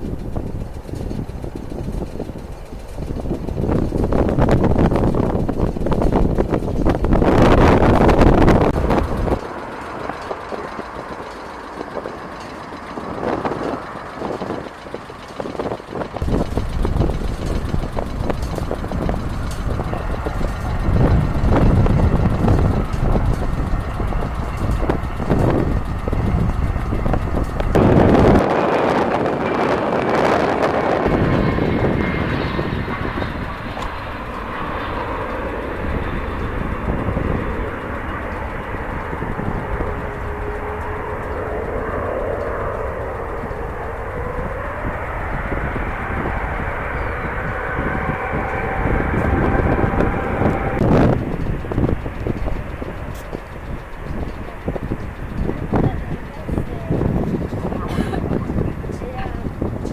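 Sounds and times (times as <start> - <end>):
airport noise rumble: 0.0 - 59.9
jet engines rushing: 0.0 - 59.9
wind buffeting microphone: 0.0 - 59.9.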